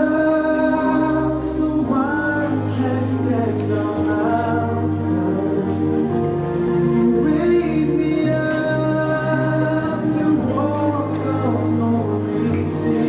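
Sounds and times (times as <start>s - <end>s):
low bass line: 0.0s - 13.0s.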